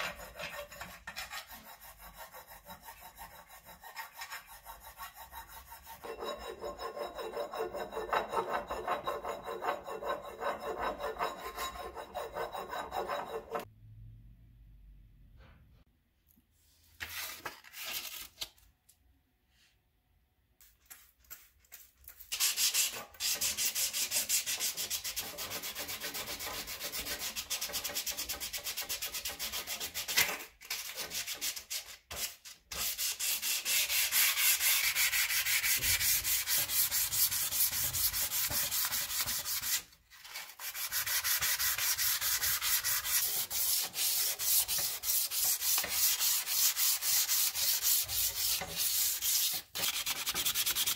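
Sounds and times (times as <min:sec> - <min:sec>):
sandpaper scraping steel blade: 0:00.0 - 0:13.7, 0:20.8 - 0:50.9.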